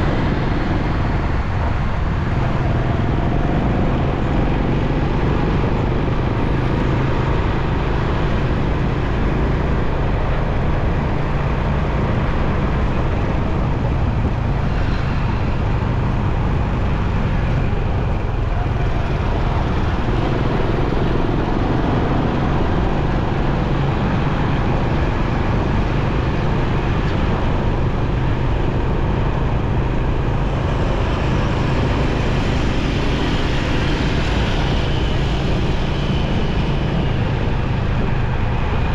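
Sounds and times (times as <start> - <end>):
motorcycle engine running: 0.0 - 38.9
road and wind noise: 0.0 - 38.9
surrounding traffic: 0.0 - 38.9.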